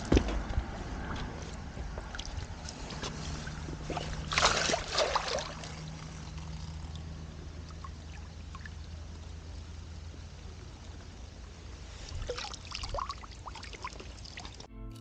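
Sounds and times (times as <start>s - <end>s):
water dripping and lapping: 1.0s - 14.7s
water splashing: 2.0s - 14.7s.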